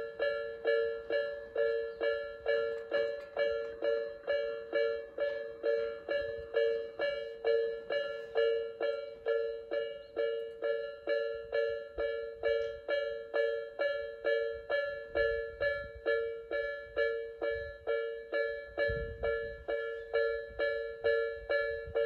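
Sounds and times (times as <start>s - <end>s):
level crossing bell dinging: 0.0s - 22.0s.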